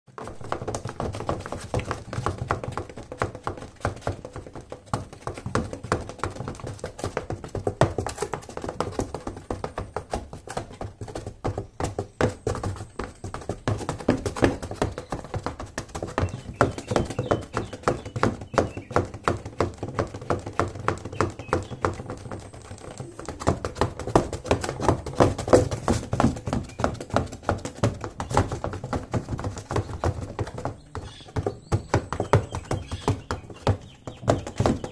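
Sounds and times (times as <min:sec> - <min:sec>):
high heels tapping on cardboard: 0:00.1 - 0:34.9.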